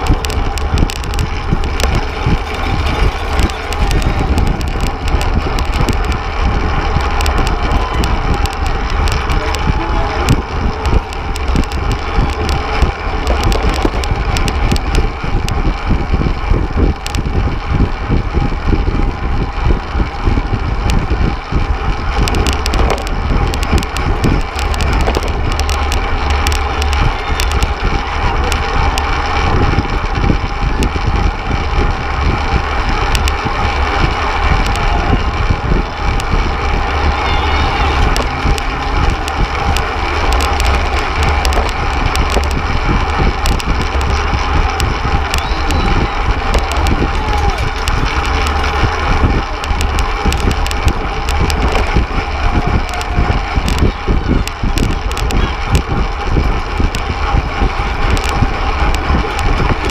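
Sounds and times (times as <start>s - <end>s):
sharp clicks and rattles: 0.0s - 59.9s
tyre and chain noise: 0.0s - 59.9s
wind buffeting microphone: 0.0s - 59.9s.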